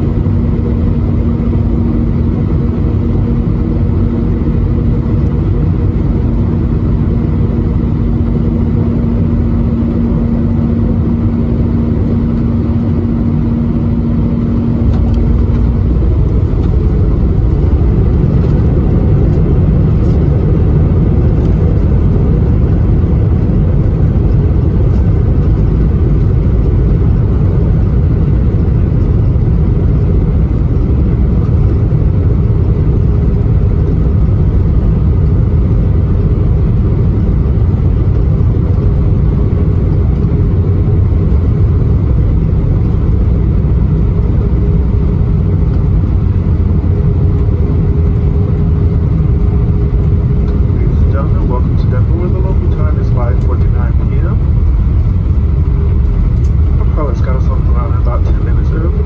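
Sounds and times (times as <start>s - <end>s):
jet engine and airflow rumble: 0.0s - 59.0s
steady cabin hum: 0.0s - 59.0s.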